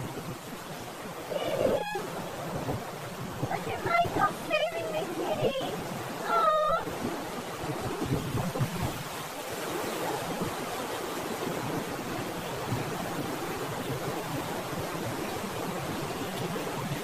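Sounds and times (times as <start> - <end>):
waves rushing and breaking: 0.0 - 17.0
wind: 0.0 - 17.0.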